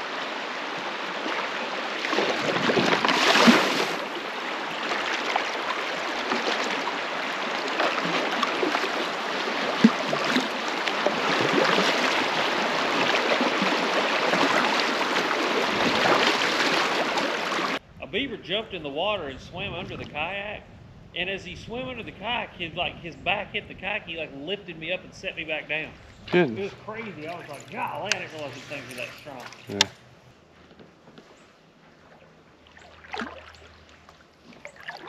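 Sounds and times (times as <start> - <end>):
creek water babbling: 0.0 - 17.8, 21.7 - 30.1, 32.0 - 35.0.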